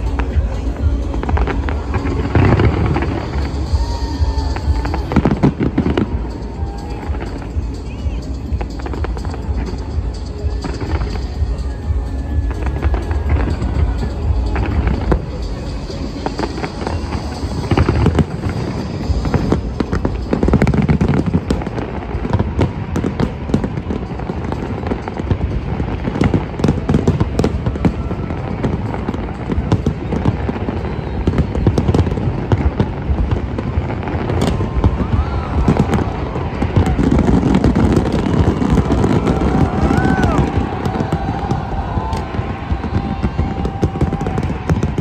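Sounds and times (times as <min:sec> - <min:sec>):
fireworks booming and crackling: 0:00.0 - 0:45.0.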